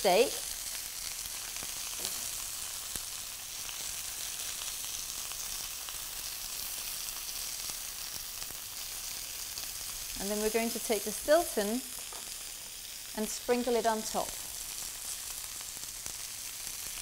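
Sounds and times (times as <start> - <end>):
steaks sizzling in oil: 0.0 - 17.0.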